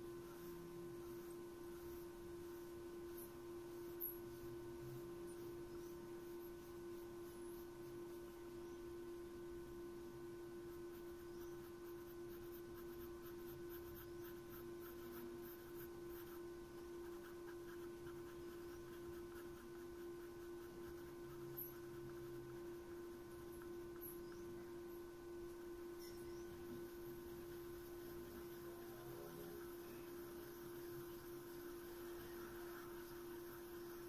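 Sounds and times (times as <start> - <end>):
pencil scratching on paper: 0.0 - 8.7, 10.5 - 24.6, 25.5 - 34.0
electrical hum: 0.0 - 34.0.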